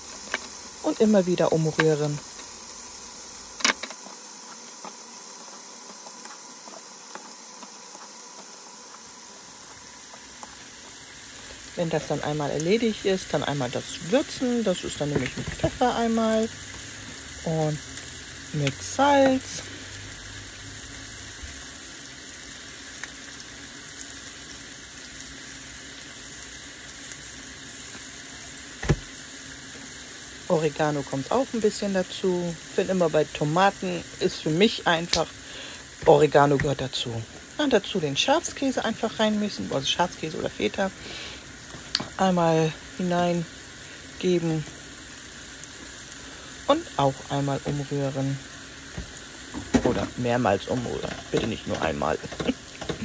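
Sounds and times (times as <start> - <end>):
vegetables sizzling in a pan: 0.0 - 53.0.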